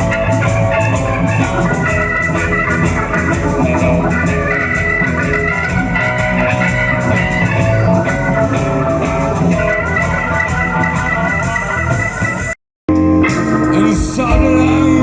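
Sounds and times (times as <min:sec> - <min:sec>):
blues band playing live: 0:00.0 - 0:15.0.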